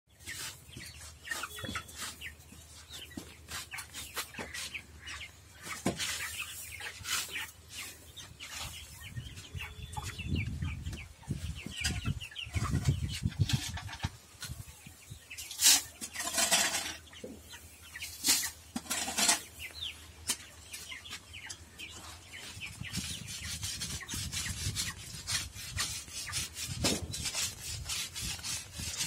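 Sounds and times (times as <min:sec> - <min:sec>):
chickens clucking: 0:00.1 - 0:29.0.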